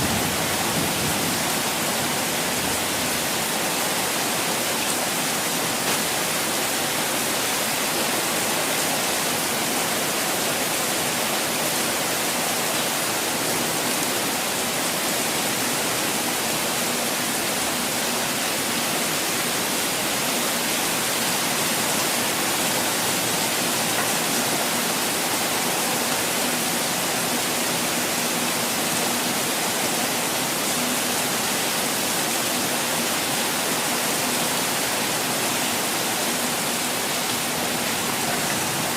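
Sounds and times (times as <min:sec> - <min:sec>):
falling water rushing: 0:00.0 - 0:38.9.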